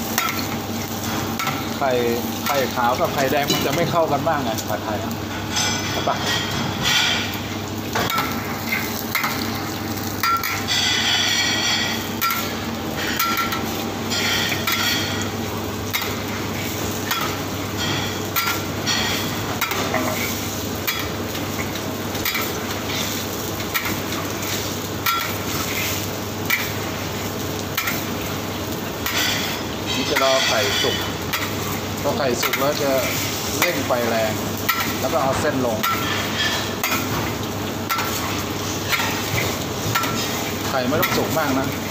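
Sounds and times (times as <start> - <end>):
eggs sizzling in hot oil: 0.0 - 41.9.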